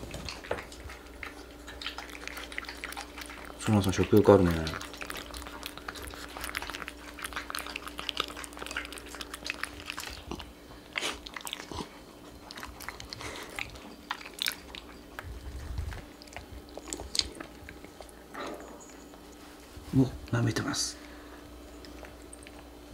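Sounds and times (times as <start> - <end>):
pets crunching dry kibble: 0.0 - 22.9.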